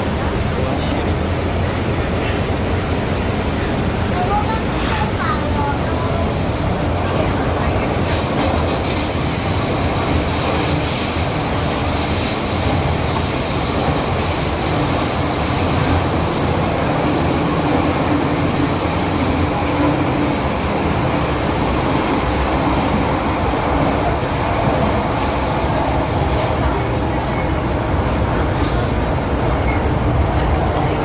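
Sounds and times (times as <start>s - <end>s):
metro train wheels rumbling: 0.0s - 31.0s.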